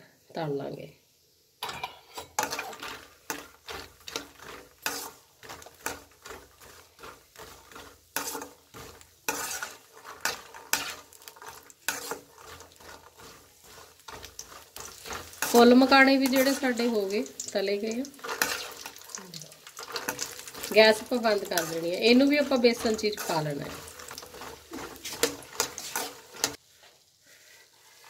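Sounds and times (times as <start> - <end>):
faint frying sizzle: 0.0 - 28.0
spoon scraping and clinking pan: 1.6 - 26.6.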